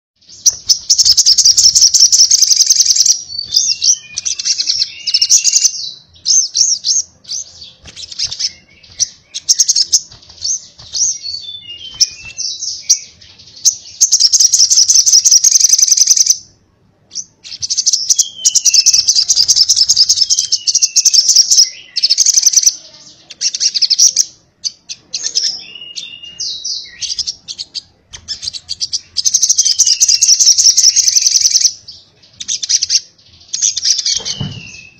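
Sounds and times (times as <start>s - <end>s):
bird chirps: 0.2s - 34.9s
bird singing buzzy trills: 0.2s - 34.9s.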